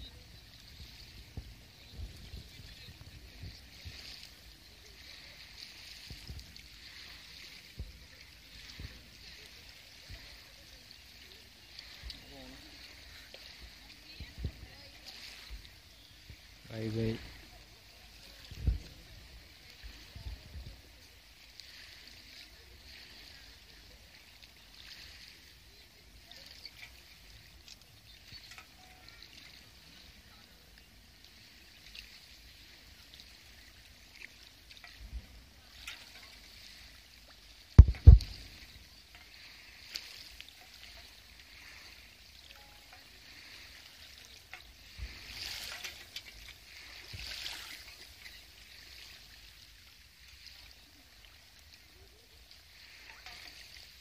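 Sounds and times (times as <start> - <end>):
small waves washing onto sand: 0.0 - 54.0.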